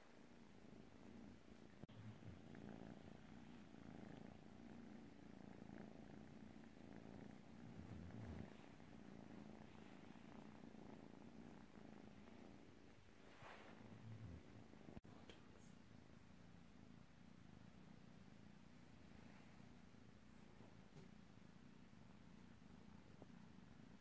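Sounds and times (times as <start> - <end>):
kitten purring: 0.0 - 24.0.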